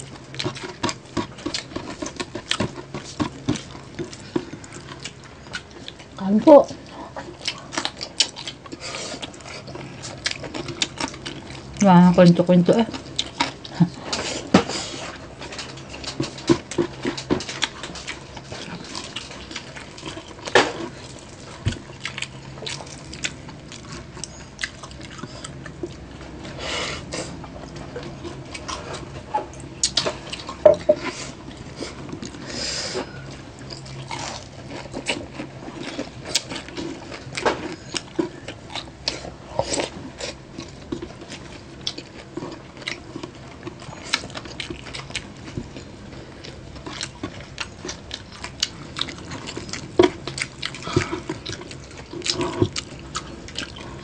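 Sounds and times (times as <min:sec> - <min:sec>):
person chewing and smacking lips: 0:00.0 - 0:11.9, 0:12.9 - 0:54.0.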